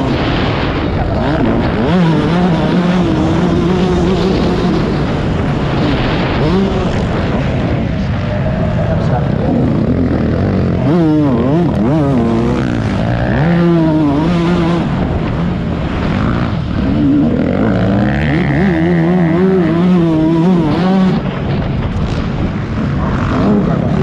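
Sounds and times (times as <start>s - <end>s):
motocross bike engine revving: 0.0s - 24.0s
wind noise: 0.0s - 24.0s.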